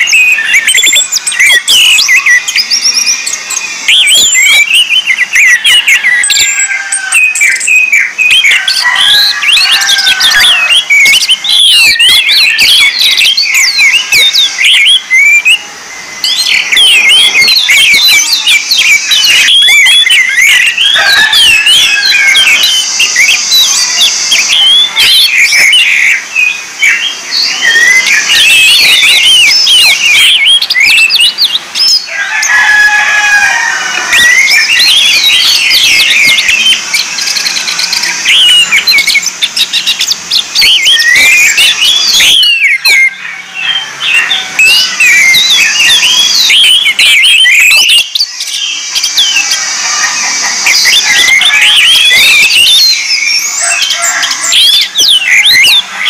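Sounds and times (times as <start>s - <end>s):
thrush singing whistled notes: 0.0s - 56.0s.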